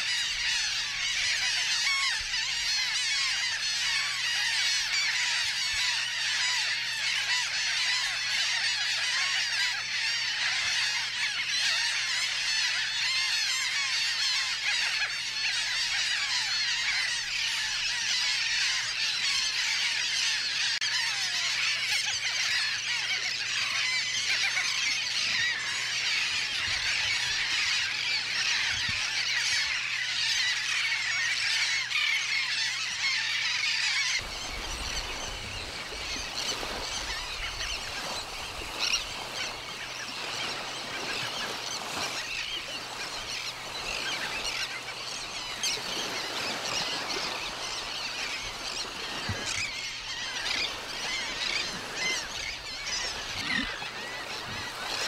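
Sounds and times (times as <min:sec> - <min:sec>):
chorus of birds calling: 0:00.0 - 0:55.0.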